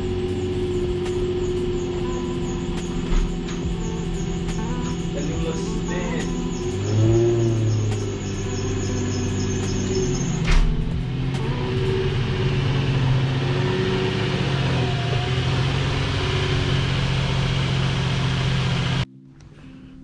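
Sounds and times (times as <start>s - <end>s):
machine humming and hissing: 0.0s - 19.0s.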